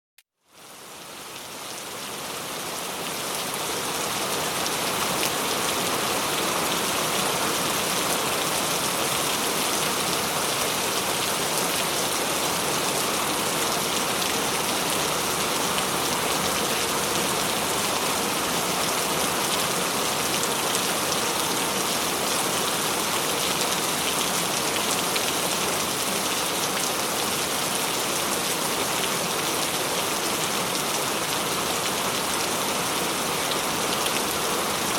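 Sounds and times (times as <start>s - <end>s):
heavy rain pattering: 2.8s - 34.9s.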